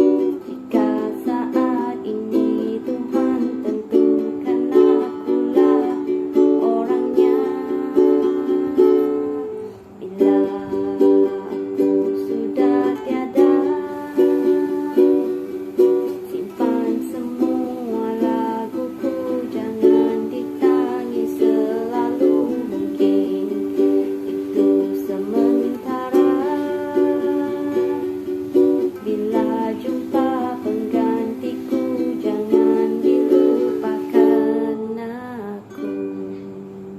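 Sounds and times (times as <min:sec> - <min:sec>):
ukulele strumming: 0:00.0 - 0:36.9.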